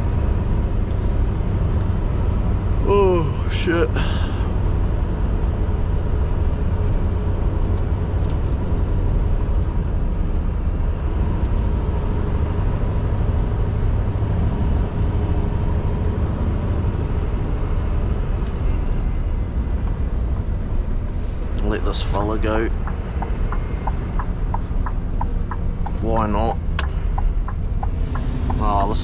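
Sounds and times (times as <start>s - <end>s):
road noise: 0.0s - 29.0s
truck engine running: 0.0s - 29.0s.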